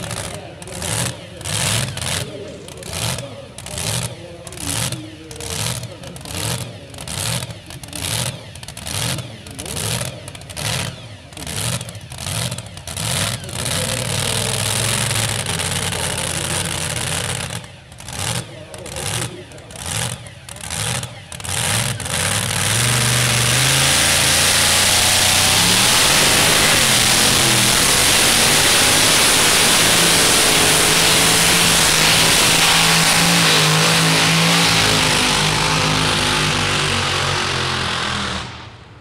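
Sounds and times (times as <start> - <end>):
truck engine revving at full throttle: 0.0 - 39.0.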